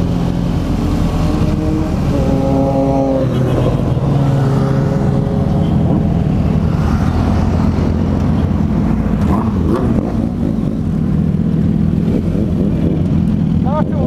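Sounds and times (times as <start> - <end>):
motorcycle engines running: 0.0 - 14.0
wind rushing over microphone: 0.0 - 14.0.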